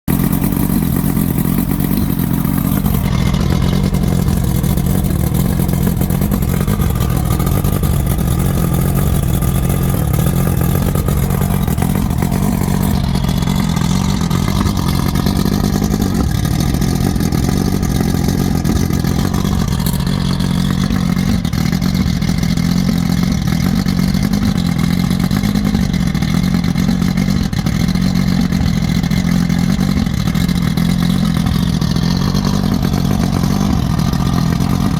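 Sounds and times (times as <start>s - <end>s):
engine running steadily: 0.1s - 34.9s.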